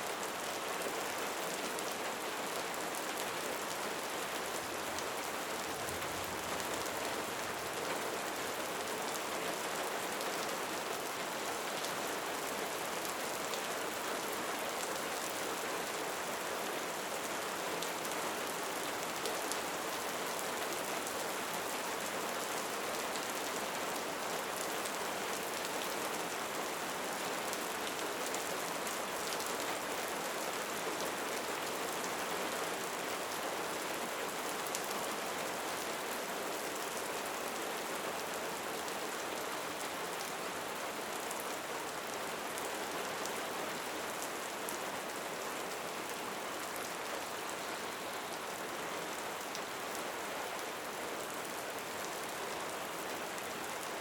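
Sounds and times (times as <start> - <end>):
steady rainfall hiss: 0.0 - 54.0.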